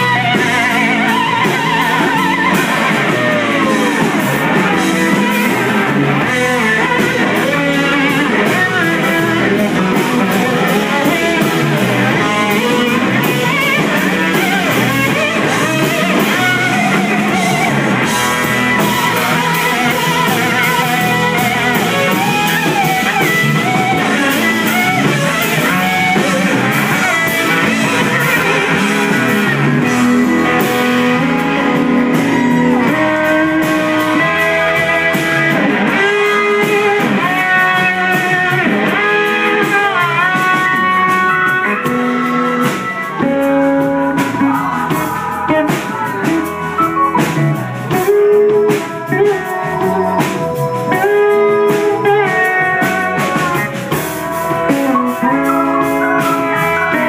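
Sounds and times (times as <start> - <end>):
live blues-rock band: 0.0 - 57.0.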